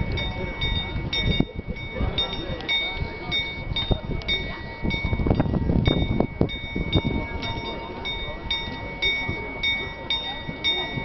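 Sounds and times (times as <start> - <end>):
crowd murmur: 0.0 - 11.0
small bell clanging: 0.0 - 11.0.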